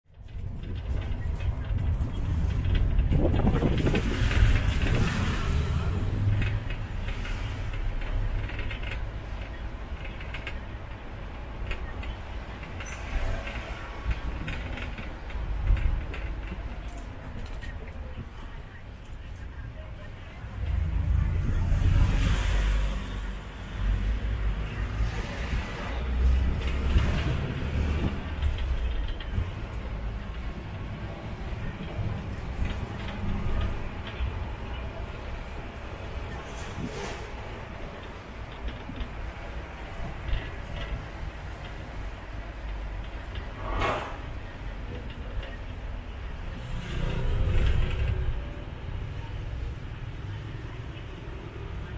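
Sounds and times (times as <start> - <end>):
tuk-tuk engine rumble: 0.1 - 51.9.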